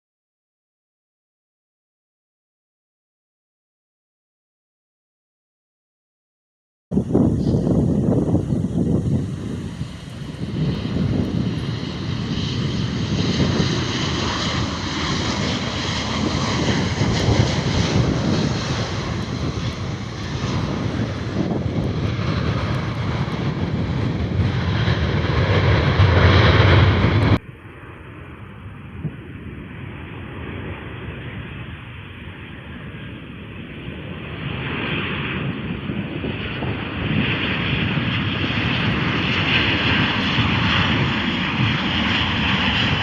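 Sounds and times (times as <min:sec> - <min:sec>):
wind hum: 0:06.9 - 0:43.0
jet engines roaring past: 0:07.0 - 0:43.0.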